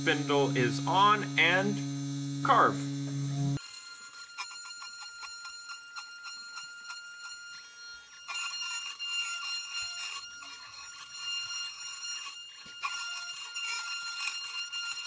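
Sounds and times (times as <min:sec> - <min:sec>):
router bit rasping wood: 0:00.0 - 0:15.0
router spindle whine: 0:00.0 - 0:15.0.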